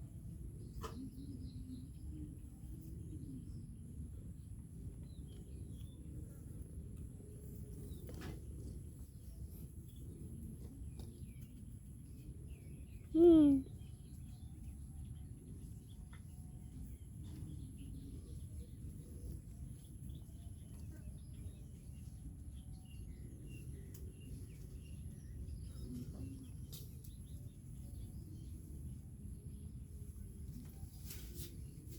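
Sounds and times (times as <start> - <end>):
faint bird chirps: 0.1 - 6.7, 7.3 - 31.9.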